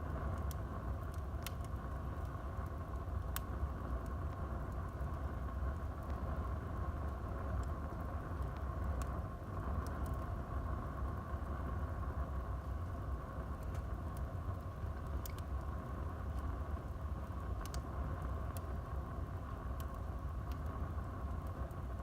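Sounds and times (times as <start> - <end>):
wood fire burning: 0.0 - 22.0.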